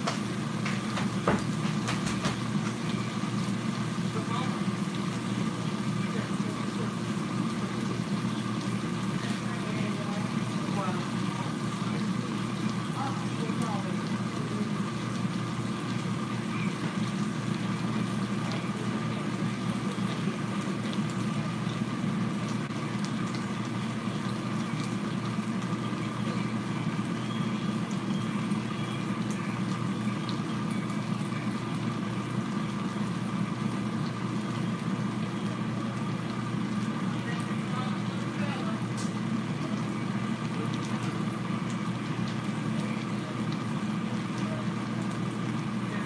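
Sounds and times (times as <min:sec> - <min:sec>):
appliance fan whirring: 0:00.0 - 0:46.0
meat frying crackles: 0:00.0 - 0:46.0.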